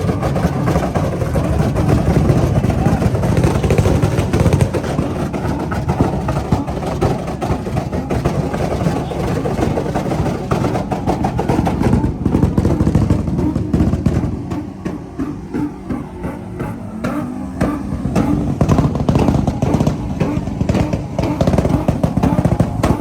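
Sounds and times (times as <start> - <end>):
car engine revving hard: 0.0 - 23.0.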